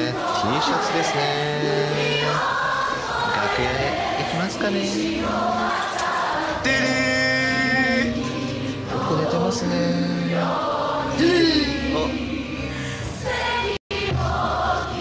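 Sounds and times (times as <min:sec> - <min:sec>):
voices singing long notes: 0:00.0 - 0:15.0.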